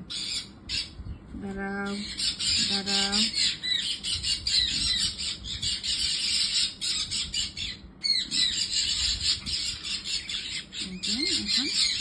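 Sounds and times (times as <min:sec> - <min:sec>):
budgerigars chattering and squawking: 0:00.0 - 0:01.0, 0:01.8 - 0:12.0.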